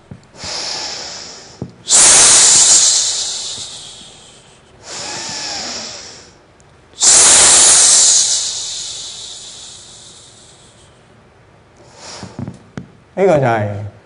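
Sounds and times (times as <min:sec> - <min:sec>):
forceful hissing breaths: 0:00.0 - 0:06.4, 0:07.0 - 0:11.0, 0:11.8 - 0:12.6.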